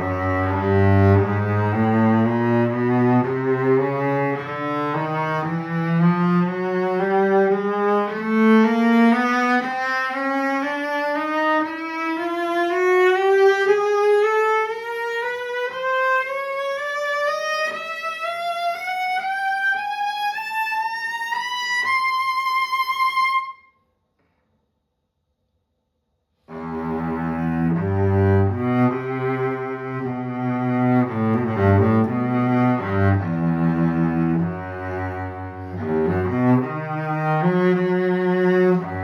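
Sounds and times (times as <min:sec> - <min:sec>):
cello playing ascending scale: 0:00.0 - 0:23.6, 0:26.5 - 0:39.0.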